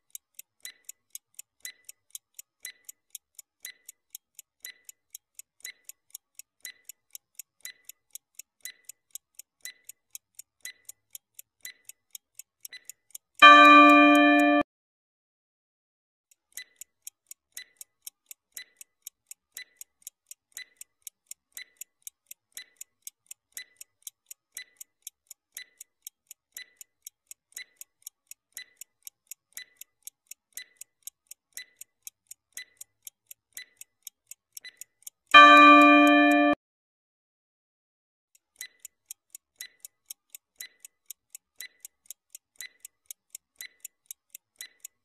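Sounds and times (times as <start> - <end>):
clock ticking: 0.0 - 14.6, 16.3 - 36.6, 38.4 - 45.0.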